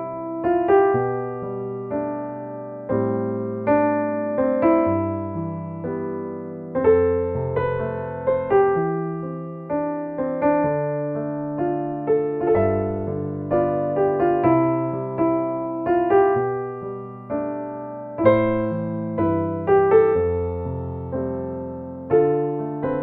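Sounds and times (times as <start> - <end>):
slow piano ballad: 0.0 - 23.0.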